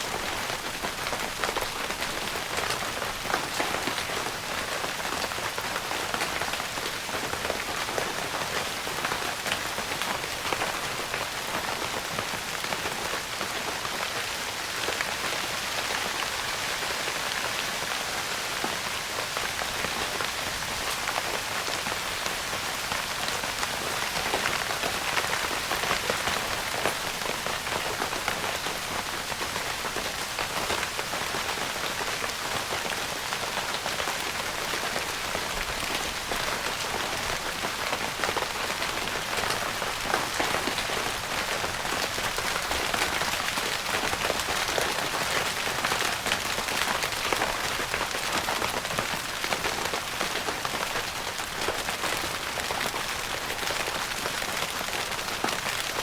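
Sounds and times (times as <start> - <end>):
rain pattering on tent fabric: 0.0 - 56.0.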